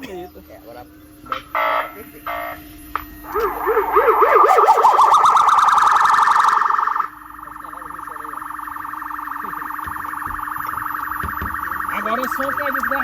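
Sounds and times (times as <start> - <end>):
car alarm siren: 1.3 - 13.0.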